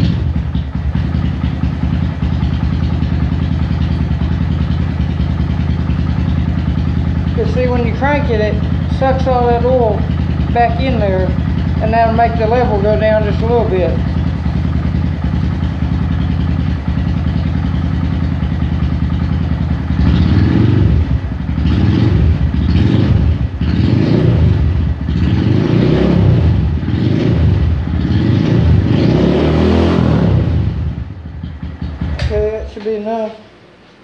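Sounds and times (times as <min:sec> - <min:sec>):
motorcycle engine idling and revving: 0:00.0 - 0:33.4.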